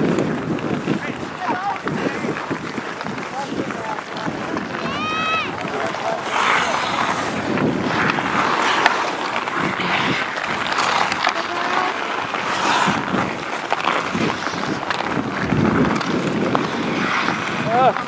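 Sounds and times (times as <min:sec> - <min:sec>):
ice skates scraping ice: 0:00.0 - 0:18.0.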